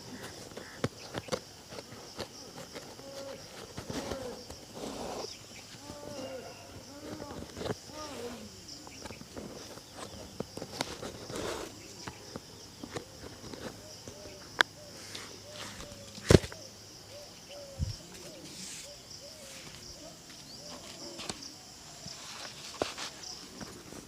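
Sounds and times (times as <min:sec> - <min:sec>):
high insect chirr: 0:00.0 - 0:24.0.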